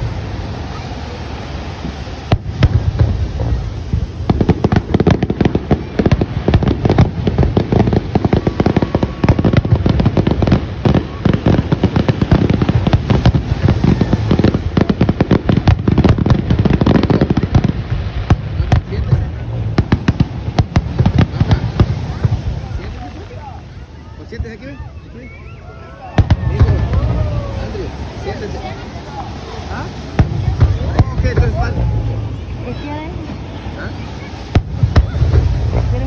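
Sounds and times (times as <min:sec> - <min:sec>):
firework booms: 0:00.0 - 0:24.9, 0:26.0 - 0:36.0
fireworks crackling and popping: 0:00.0 - 0:36.0.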